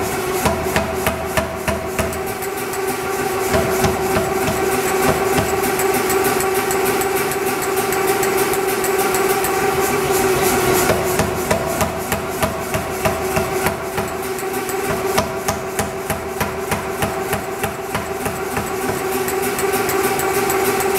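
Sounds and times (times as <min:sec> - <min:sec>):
power hammer striking hot metal: 0:00.0 - 0:20.9.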